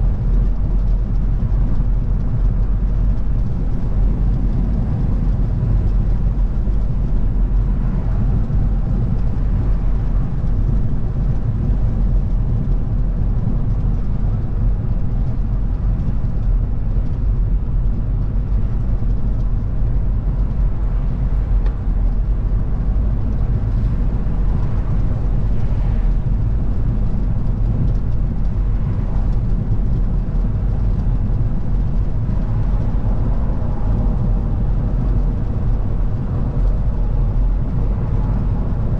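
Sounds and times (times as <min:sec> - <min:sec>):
car engine and tyre road noise: 0:00.0 - 0:38.9.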